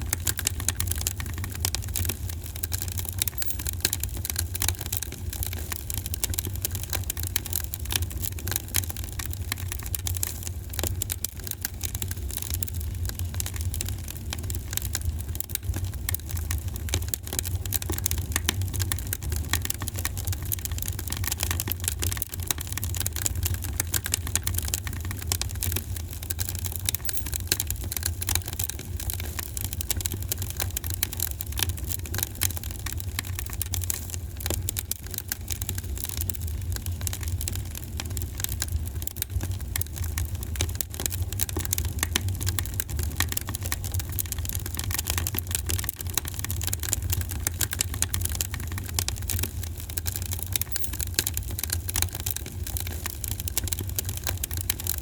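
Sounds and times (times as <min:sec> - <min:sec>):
wood fire crackling and snapping: 0:00.0 - 0:27.2, 0:28.0 - 0:55.0.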